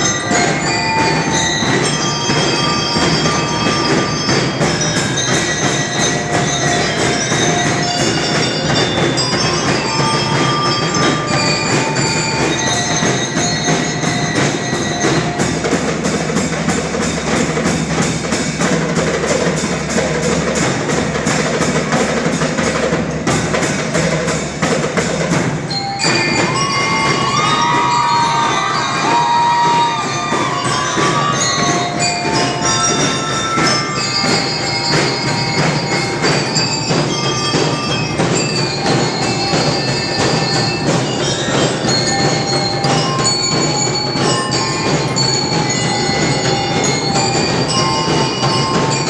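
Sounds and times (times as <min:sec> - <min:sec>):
bell lyre notes: 0:00.0 - 0:18.2, 0:25.7 - 0:49.0
drum cadence: 0:00.0 - 0:49.0.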